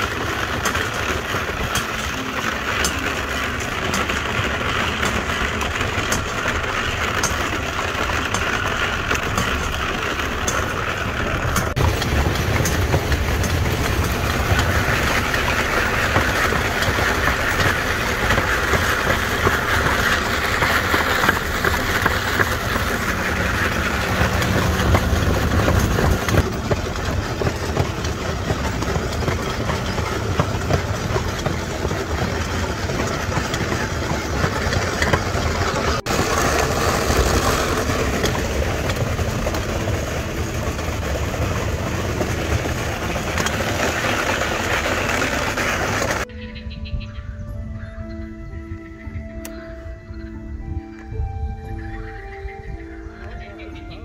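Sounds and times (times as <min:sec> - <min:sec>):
wooden cart rumbling and rattling: 0:00.0 - 0:54.0.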